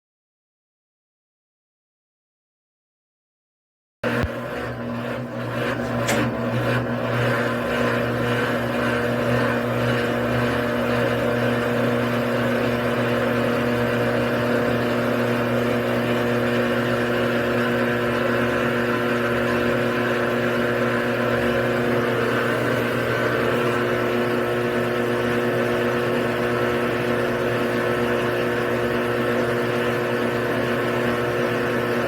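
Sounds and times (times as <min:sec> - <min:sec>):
drain pump humming: 0:04.0 - 0:32.0.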